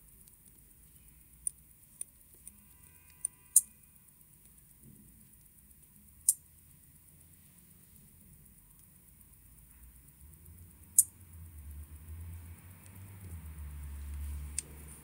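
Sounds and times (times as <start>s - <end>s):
metal tool ticking on watch parts: 0.0s - 7.4s, 8.0s - 15.0s.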